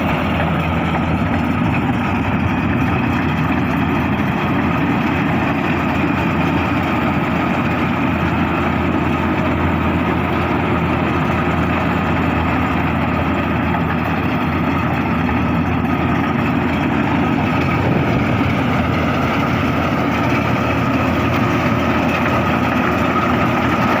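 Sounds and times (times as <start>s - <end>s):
combine harvester engine hum: 0.0s - 24.0s.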